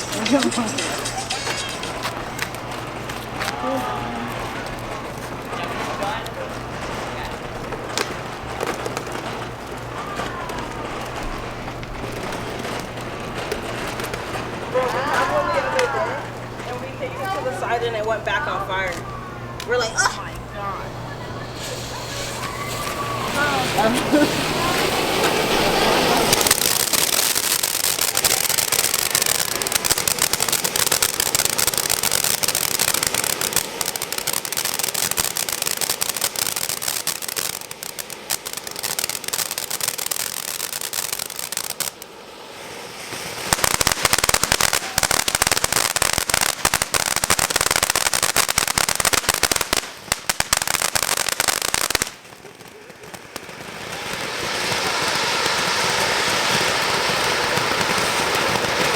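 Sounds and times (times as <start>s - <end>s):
fireworks crackling pops: 0.0s - 58.9s.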